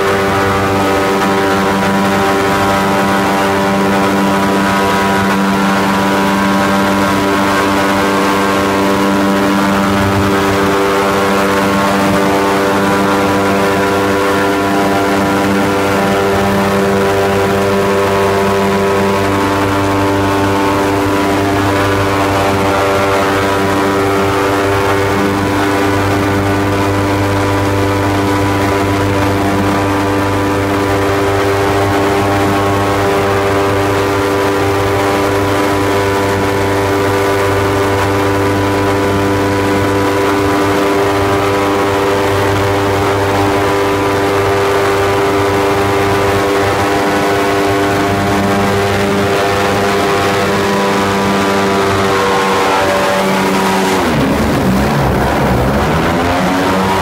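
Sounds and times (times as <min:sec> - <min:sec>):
airboat engine droning: 0:00.0 - 0:57.0.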